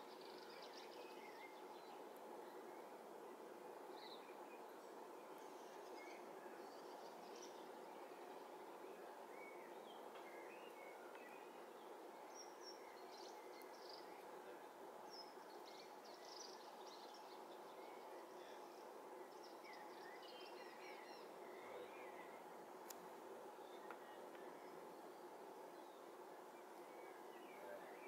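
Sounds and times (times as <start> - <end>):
small birds chirping: 3.9 - 28.0.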